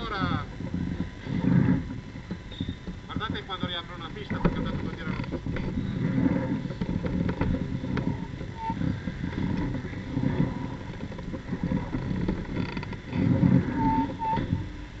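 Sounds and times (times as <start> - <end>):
motorcycle engine rumble: 0.0 - 15.0.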